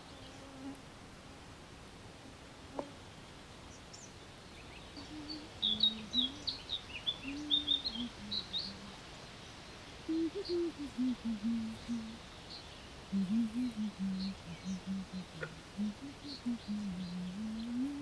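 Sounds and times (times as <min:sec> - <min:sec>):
songbird singing: 0:02.8 - 0:18.0.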